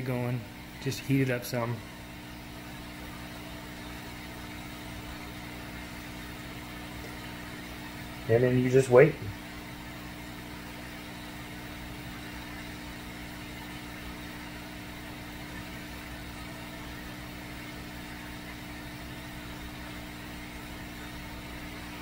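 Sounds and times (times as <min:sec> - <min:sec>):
steady motor hum: 0:00.0 - 0:22.0.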